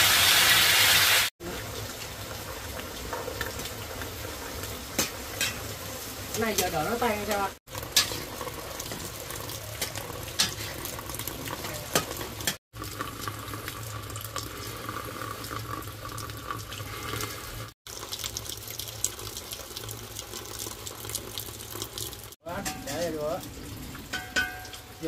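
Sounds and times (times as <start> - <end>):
water running and splashing: 0.0 - 25.0.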